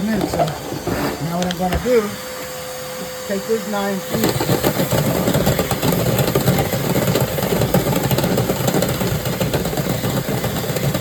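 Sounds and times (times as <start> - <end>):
motor droning: 0.0 - 11.0.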